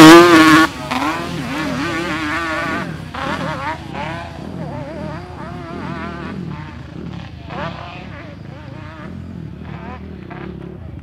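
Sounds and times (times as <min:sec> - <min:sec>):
dirt bike engine revving: 0:00.0 - 0:11.0
quad engine revving: 0:00.0 - 0:11.0.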